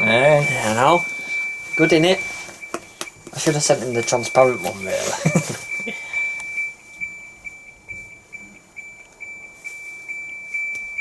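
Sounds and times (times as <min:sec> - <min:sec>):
fast high-pitched electronic beeps: 0:00.0 - 0:11.0
steady high tone: 0:00.0 - 0:11.0.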